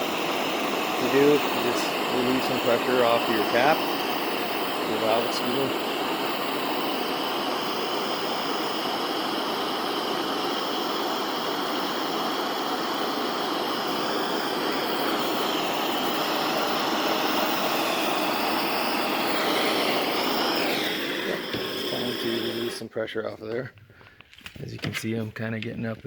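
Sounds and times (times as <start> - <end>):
gas torch flame hissing: 0.0 - 22.9.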